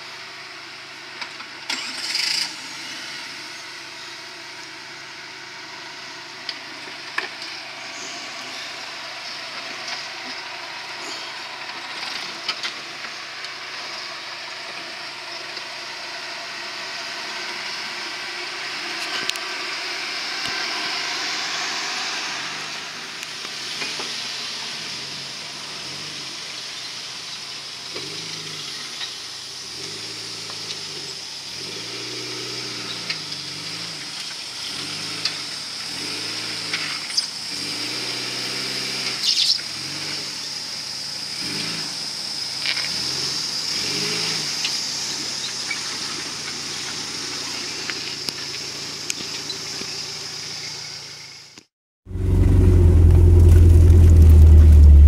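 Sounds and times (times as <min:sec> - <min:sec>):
engine revving: 0:01.2 - 0:55.0.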